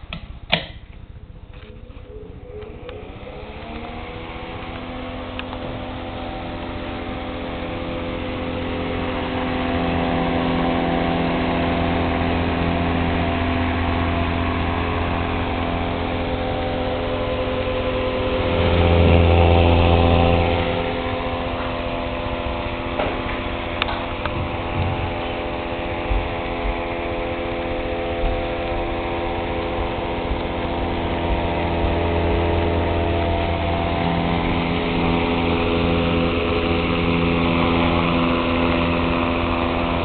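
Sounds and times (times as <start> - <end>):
electric fan motor humming: 0.0 - 40.0
fan blades whooshing: 0.0 - 40.0.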